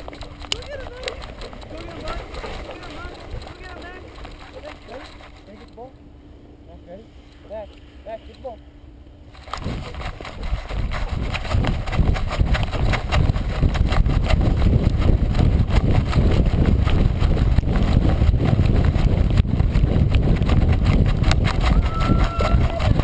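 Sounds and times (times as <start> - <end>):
wind rushing over camera: 0.0 - 5.4, 9.3 - 23.0
thumps and rattles from dog's strides: 0.0 - 5.9, 9.4 - 23.0
steady rumble: 0.0 - 23.0.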